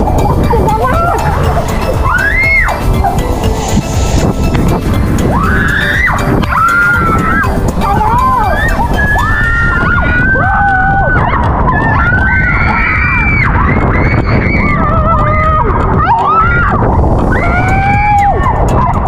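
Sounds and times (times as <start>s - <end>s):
people screaming: 0.0s - 3.7s, 5.2s - 19.0s
loud steady rushing noise: 0.0s - 19.0s.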